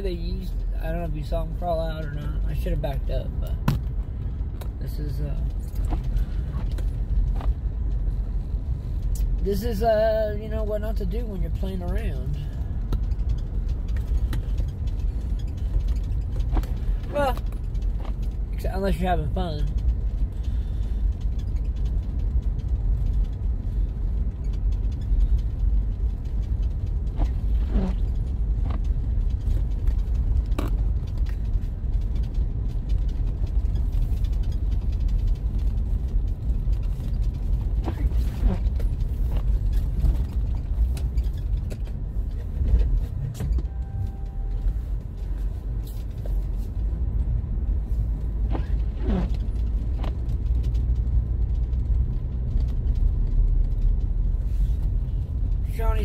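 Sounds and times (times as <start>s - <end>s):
vehicle driving rumble: 0.0s - 56.0s.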